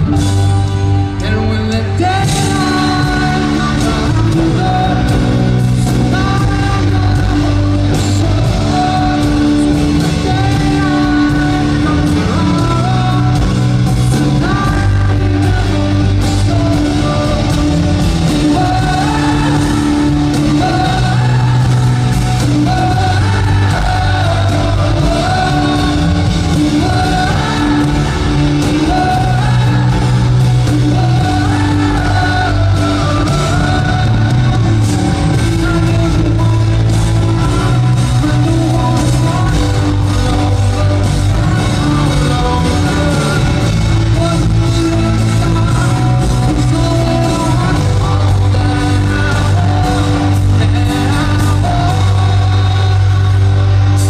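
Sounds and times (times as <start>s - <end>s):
person singing: 0.0s - 54.0s
pop-rock band playing live: 0.0s - 54.0s.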